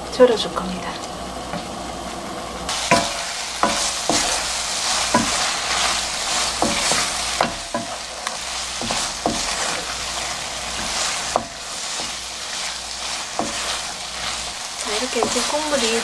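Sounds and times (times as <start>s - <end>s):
sauce sizzling in frying pan: 0.2s - 16.0s
wooden spatula scraping pan: 2.7s - 16.0s.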